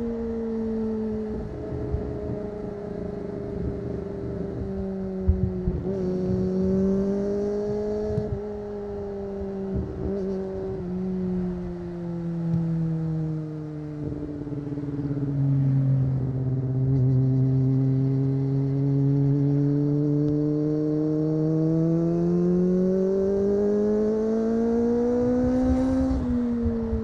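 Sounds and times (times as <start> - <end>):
motorcycle engine at high revs: 0.0 - 27.0.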